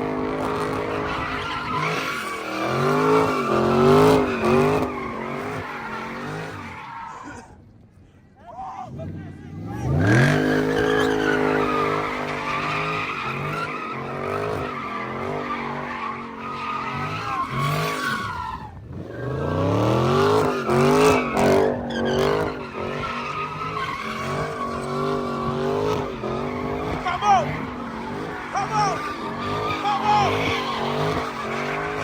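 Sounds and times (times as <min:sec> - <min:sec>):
car engine revving hard: 0:00.0 - 0:06.6, 0:09.6 - 0:32.0
tyre squeal: 0:00.3 - 0:07.5, 0:09.8 - 0:32.0.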